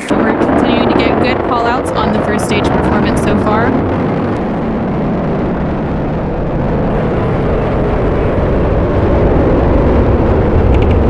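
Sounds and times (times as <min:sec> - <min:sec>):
rocket engines roaring: 0:00.0 - 0:11.0.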